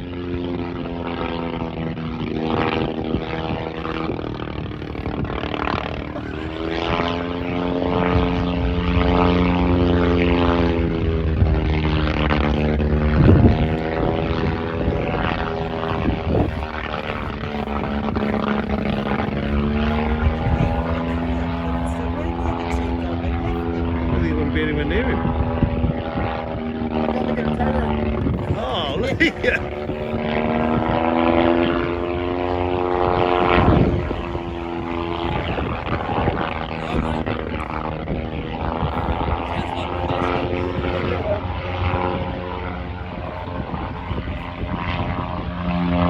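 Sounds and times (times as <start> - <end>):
propeller plane flying overhead: 0.0 - 46.0.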